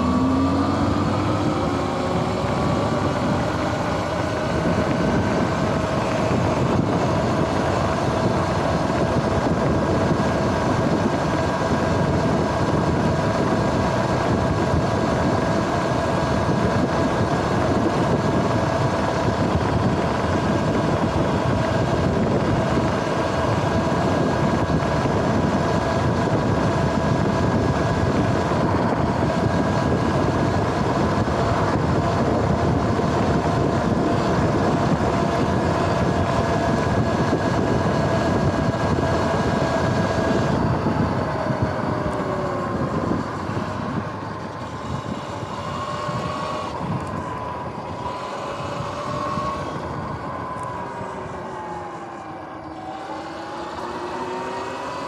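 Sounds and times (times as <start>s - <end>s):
electric motor whining: 0.0s - 55.0s
road noise: 0.0s - 55.0s
wind: 0.0s - 55.0s.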